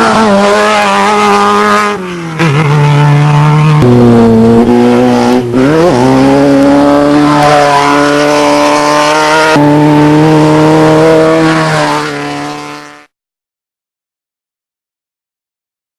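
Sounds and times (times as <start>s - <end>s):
race vehicle engine revving hard: 0.0s - 13.1s.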